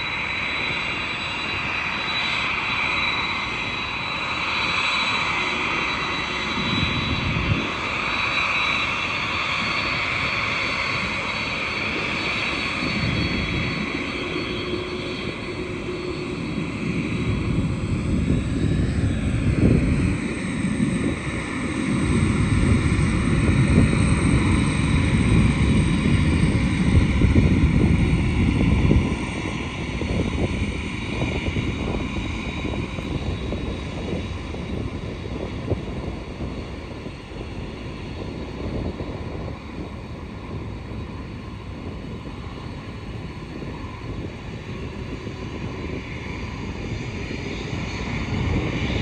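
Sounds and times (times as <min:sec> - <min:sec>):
high jet engine whine: 0:00.0 - 0:49.0
jet engines rumbling: 0:00.0 - 0:49.0.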